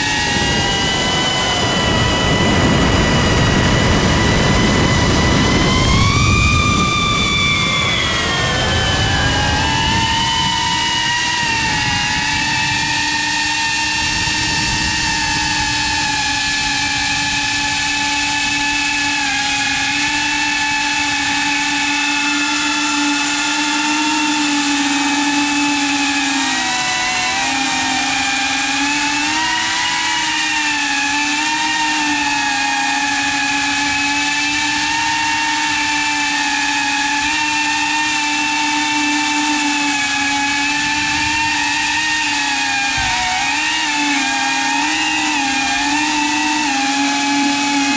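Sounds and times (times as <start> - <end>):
drone propellers buzzing: 0.0 - 47.9.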